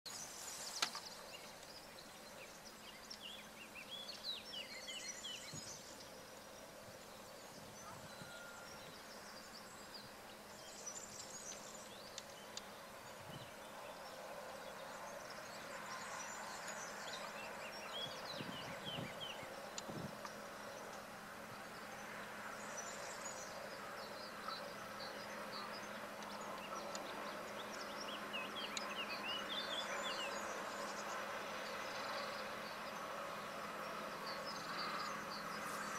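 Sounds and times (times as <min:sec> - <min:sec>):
small birds chirping: 0:00.1 - 0:35.9
distant diesel locomotive hum: 0:00.3 - 0:35.9.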